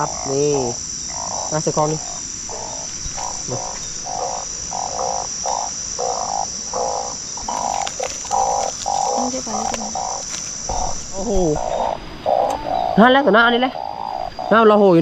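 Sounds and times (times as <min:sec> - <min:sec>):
frogs croaking: 0:00.0 - 0:15.0
high-pitched insect drone: 0:00.0 - 0:15.0.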